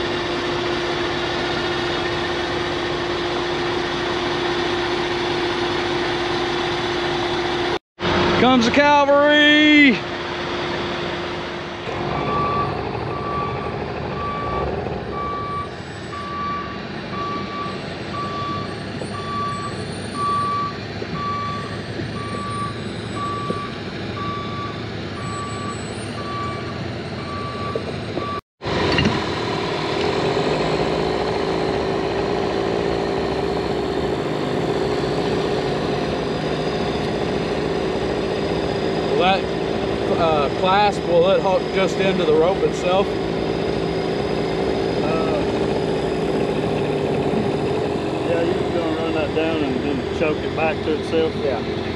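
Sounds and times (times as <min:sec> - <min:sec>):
truck engine running: 0:00.0 - 0:51.9
truck reversing alarm beeping: 0:09.4 - 0:51.9.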